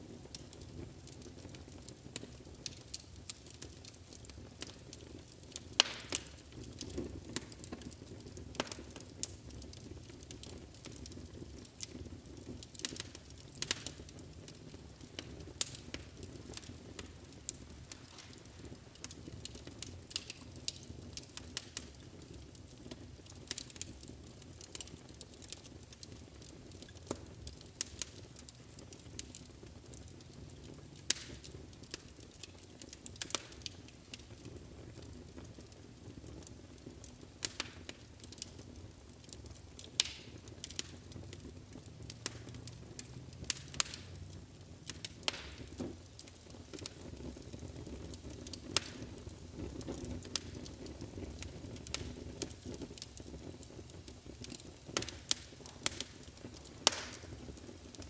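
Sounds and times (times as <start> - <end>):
low rush of flames: 0.0 - 58.0
wood fire crackling and popping: 0.0 - 58.0.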